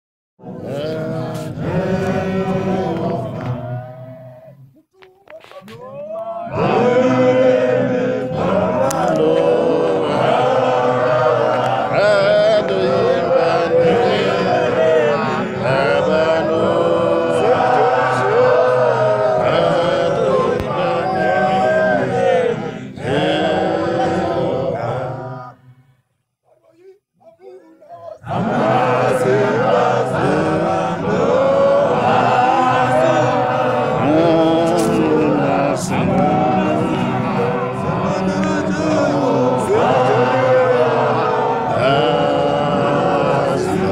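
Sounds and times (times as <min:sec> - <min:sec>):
group singing gospel chant: 0:00.4 - 0:04.6, 0:05.7 - 0:25.8, 0:28.0 - 0:43.9.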